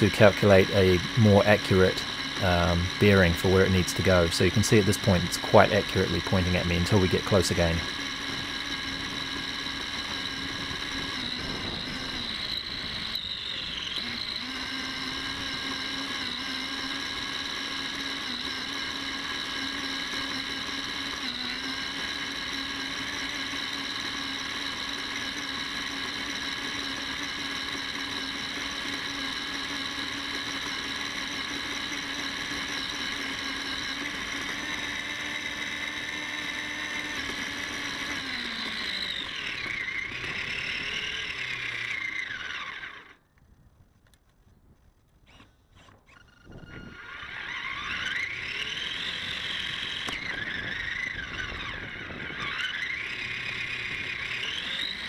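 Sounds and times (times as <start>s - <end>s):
rc car motor whining: 0.0s - 55.0s.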